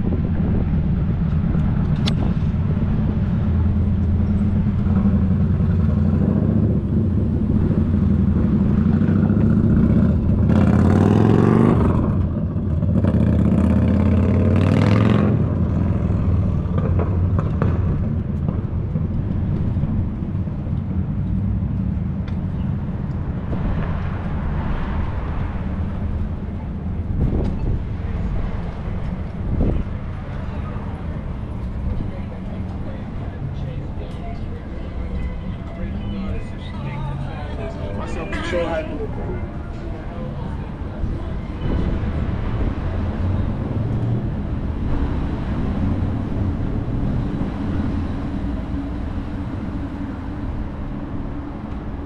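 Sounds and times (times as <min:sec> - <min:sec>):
wind rumble on microphone: 0:00.0 - 0:38.2, 0:38.8 - 0:52.0
cars passing close by: 0:00.0 - 0:52.0.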